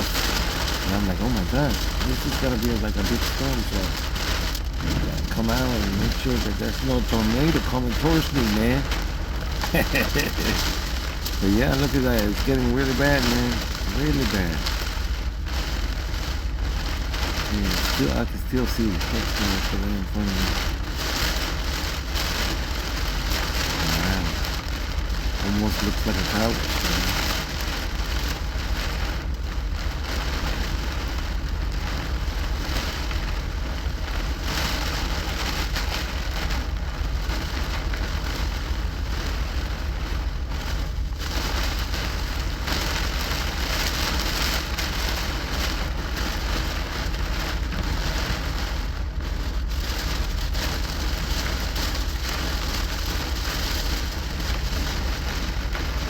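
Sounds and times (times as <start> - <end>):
heavy rain on truck: 0.0 - 56.0
low rumble: 0.0 - 56.0.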